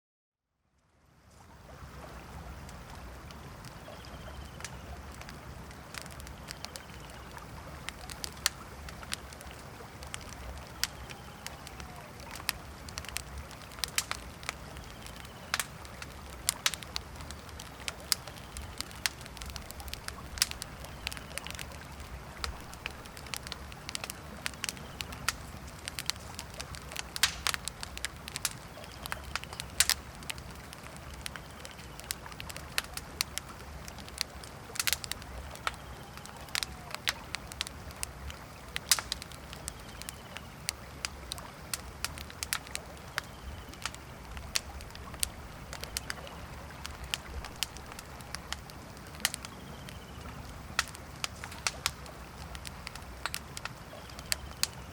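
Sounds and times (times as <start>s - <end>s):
campfire crackling and popping: 1.4s - 54.9s.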